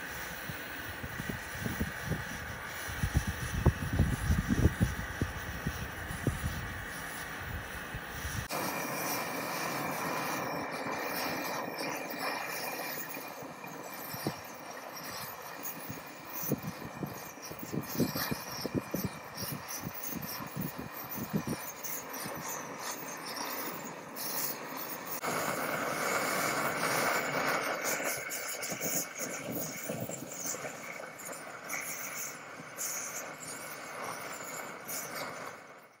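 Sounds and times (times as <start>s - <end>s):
camping stove roaring hiss: 0.0s - 36.0s.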